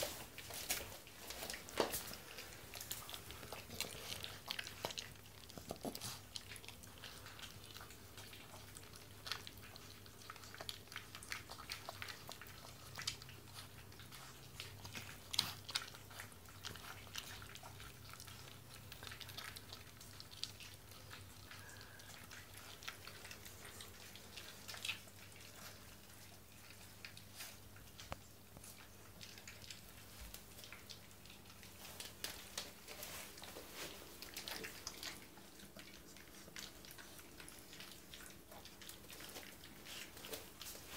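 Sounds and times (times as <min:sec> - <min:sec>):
puppy crunching kibble: 0:00.0 - 0:40.9.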